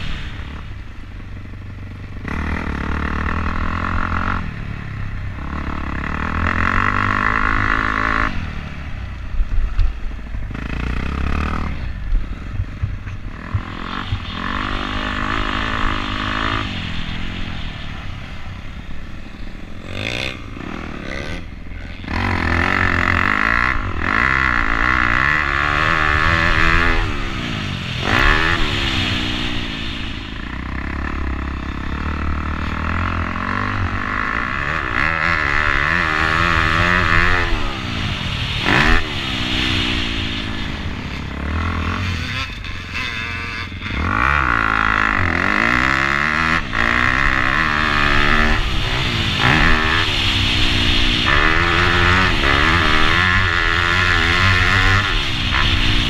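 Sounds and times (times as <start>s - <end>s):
dirt bike engine revving: 0.0s - 56.0s
low wind rumble: 0.0s - 56.0s.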